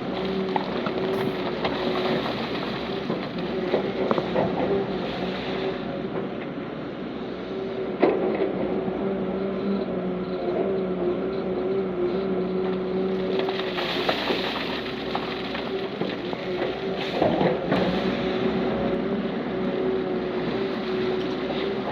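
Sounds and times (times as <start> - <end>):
diesel earthmoving machinery: 0.0 - 21.9.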